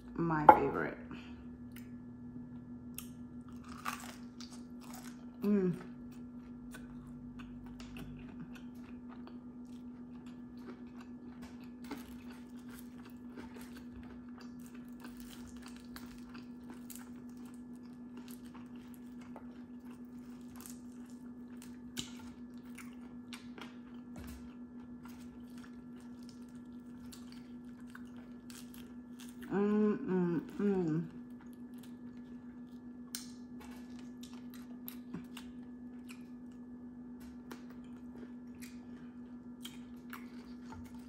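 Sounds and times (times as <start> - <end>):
steady low hum: 0.0 - 41.0
crunchy food chewing: 1.7 - 29.5, 30.4 - 41.0.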